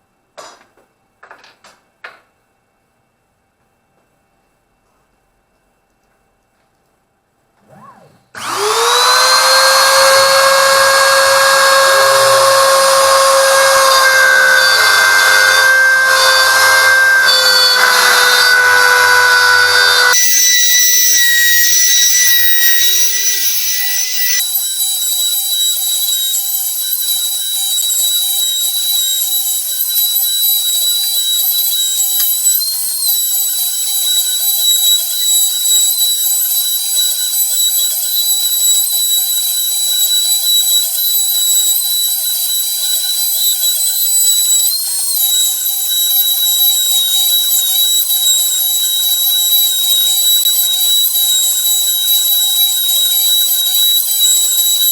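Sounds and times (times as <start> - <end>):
machine high-pitched whine: 7.6 - 54.9.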